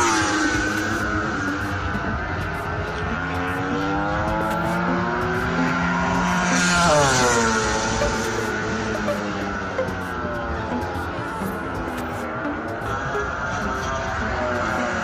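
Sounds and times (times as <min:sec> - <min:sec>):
racing motorcycle engine passing by: 0:00.0 - 0:15.0.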